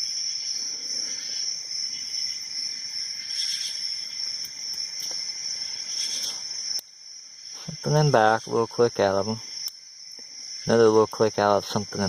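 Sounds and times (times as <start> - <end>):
cricket trill: 0.0 - 12.0.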